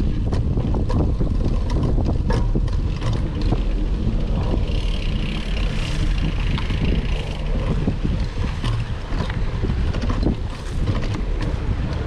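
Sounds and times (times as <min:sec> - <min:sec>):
bike rattles and knocks: 0:00.0 - 0:12.0
bike tyres rumbling on dirt: 0:00.0 - 0:12.0.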